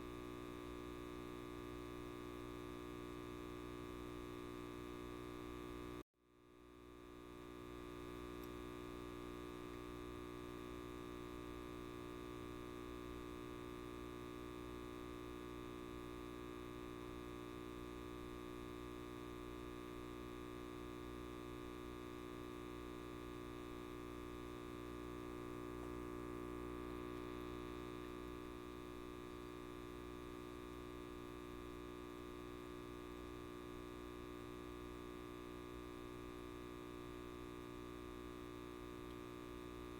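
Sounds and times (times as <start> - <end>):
light bulb buzzing: 6.6 - 39.9.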